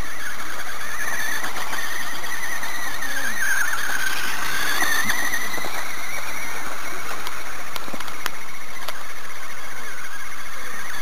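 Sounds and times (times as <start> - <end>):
rc car electric motor whining: 0.0 - 11.0.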